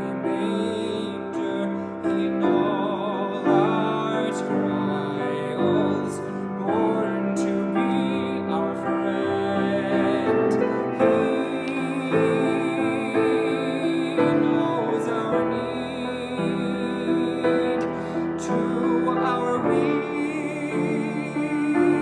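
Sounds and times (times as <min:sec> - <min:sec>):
person singing with vibrato: 0:00.0 - 0:22.0
piano accompaniment: 0:00.0 - 0:22.0.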